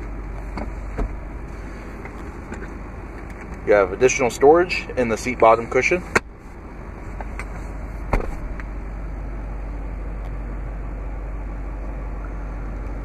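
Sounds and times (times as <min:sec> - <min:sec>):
truck running heard inside cab: 0:00.0 - 0:13.0.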